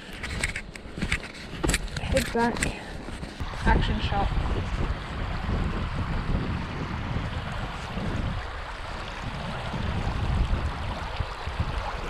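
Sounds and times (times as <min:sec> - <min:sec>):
creek water rippling over stones: 0:00.0 - 0:12.0
wind buffeting microphone: 0:00.0 - 0:12.0.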